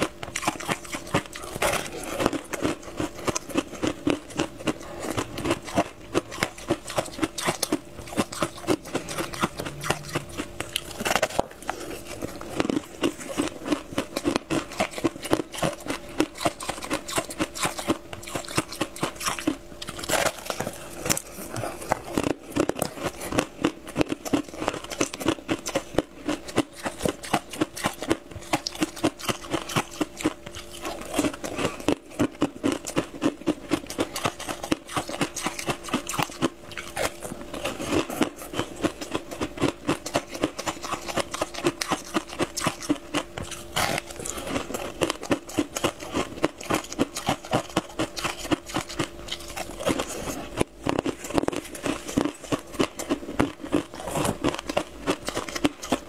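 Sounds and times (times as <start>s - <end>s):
chewing crispy pastry: 0.0s - 56.0s.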